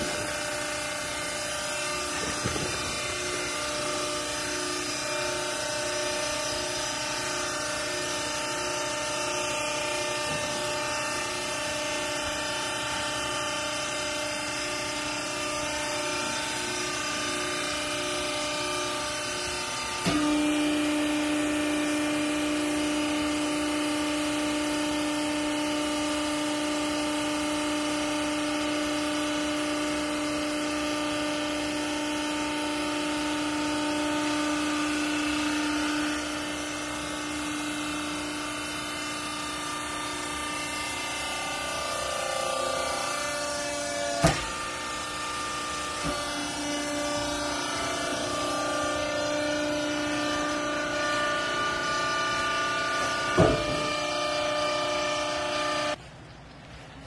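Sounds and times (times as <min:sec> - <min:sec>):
hydraulic pump humming: 0:00.0 - 0:57.0.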